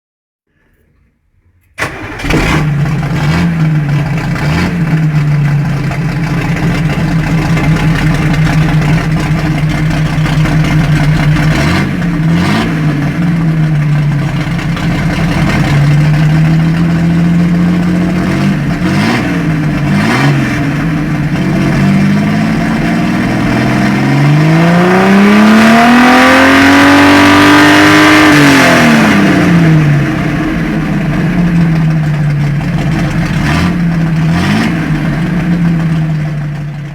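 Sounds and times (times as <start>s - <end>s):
car engine starting and revving: 1.7s - 36.9s.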